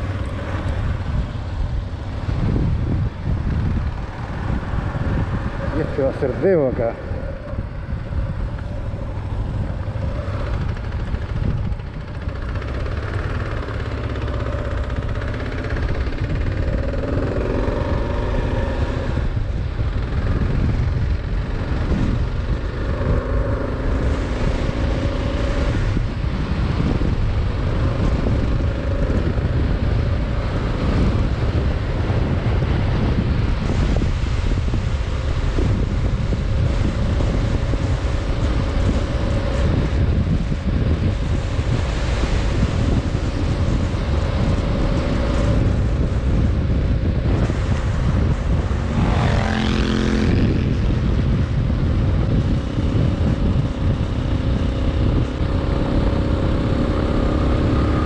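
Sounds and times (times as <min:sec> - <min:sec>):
motorcycle engine accelerating: 0:00.0 - 0:58.0
wind buffeting microphone: 0:00.0 - 0:58.0.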